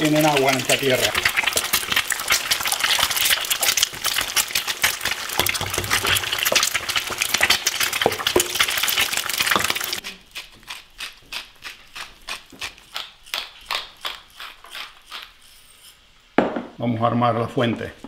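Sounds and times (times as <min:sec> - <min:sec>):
oil crackling and spattering: 0:00.0 - 0:15.4
eggs deep-frying in hot oil: 0:00.0 - 0:15.5.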